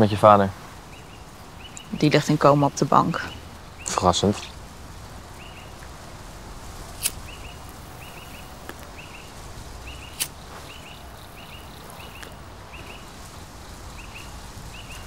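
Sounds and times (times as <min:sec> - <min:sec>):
small bird chirping: 0:00.8 - 0:06.0, 0:06.7 - 0:15.0.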